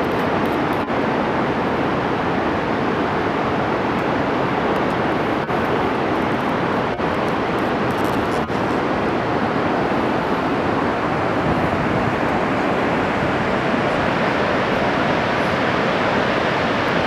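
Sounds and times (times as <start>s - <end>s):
waterfall rushing: 0.3s - 17.0s.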